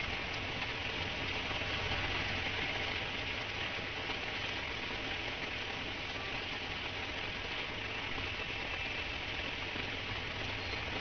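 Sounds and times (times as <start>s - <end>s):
heavy rain on wet street: 0.0s - 11.0s
low rumble of traffic: 0.0s - 11.0s.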